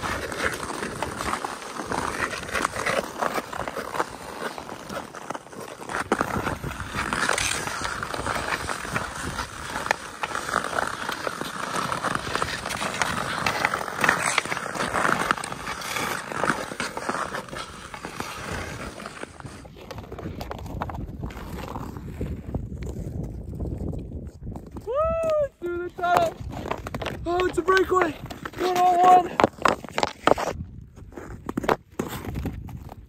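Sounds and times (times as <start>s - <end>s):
ice skates scraping ice: 0.0s - 33.0s.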